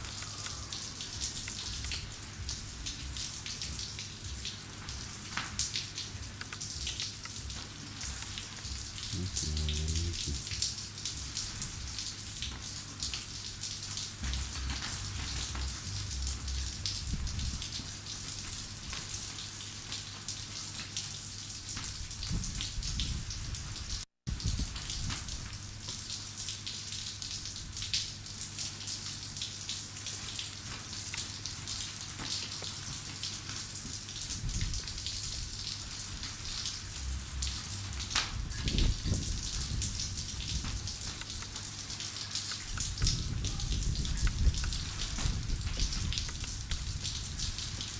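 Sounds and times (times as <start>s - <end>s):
light rain pattering: 0.0s - 47.9s.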